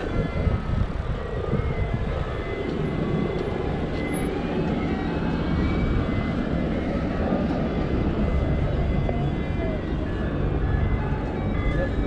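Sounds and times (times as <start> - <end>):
faint high whine: 0.0 - 12.0
road and traffic noise: 0.0 - 12.0
wind on microphone: 0.0 - 12.0.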